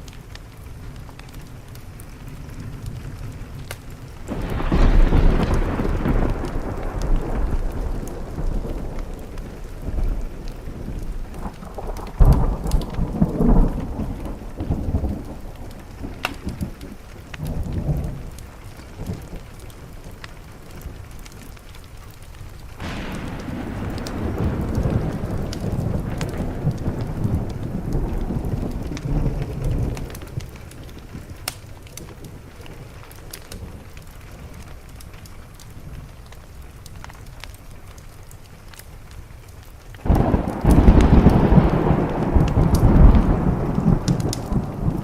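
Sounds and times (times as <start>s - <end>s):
rain on a window: 0.0s - 45.0s
wood fire crackling: 0.0s - 45.0s
rolling thunder: 2.0s - 21.6s, 22.8s - 34.6s, 40.0s - 45.0s.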